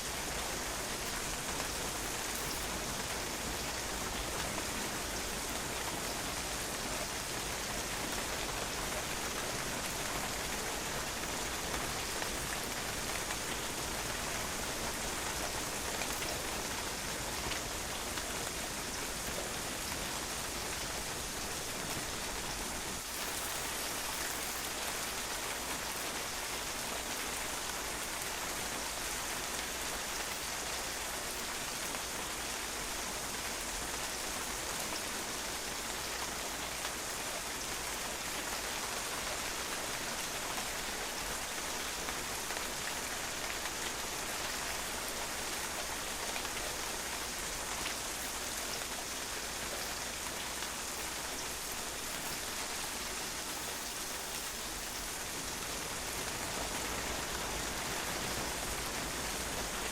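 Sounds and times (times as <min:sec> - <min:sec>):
rain pattering on patio: 0:00.0 - 0:59.9.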